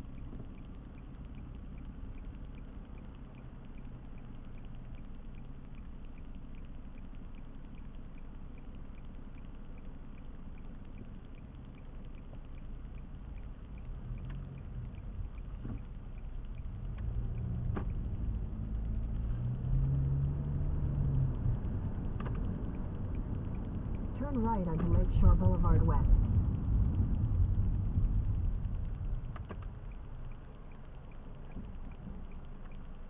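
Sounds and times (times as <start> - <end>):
car road and engine rumble: 0.0 - 33.0
faint regular ticking: 0.0 - 33.0.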